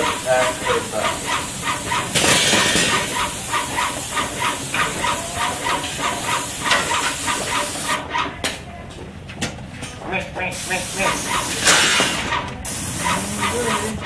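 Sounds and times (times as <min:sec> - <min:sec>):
paint sprayer hissing: 0:00.0 - 0:08.3, 0:10.4 - 0:14.0.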